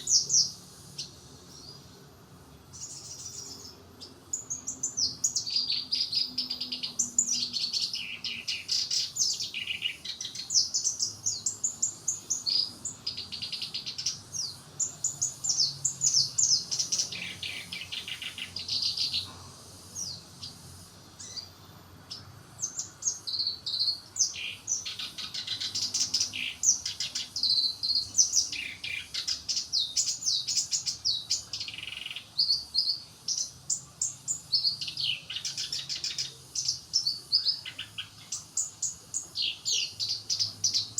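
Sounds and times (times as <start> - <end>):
warbler singing: 0.0 - 40.9.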